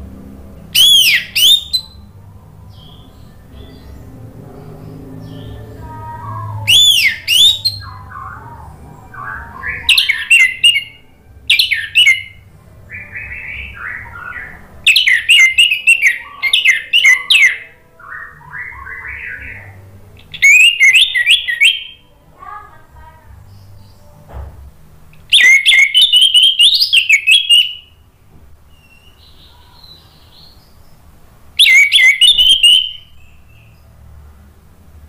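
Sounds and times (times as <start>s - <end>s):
bird singing whistled notes: 0.6s - 22.0s, 25.2s - 28.0s, 28.7s - 31.0s, 31.6s - 33.9s.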